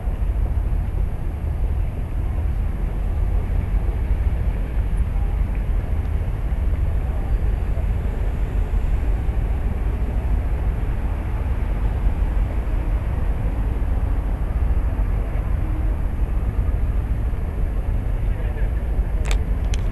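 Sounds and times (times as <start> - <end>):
ship engine low rumble: 0.0 - 19.9.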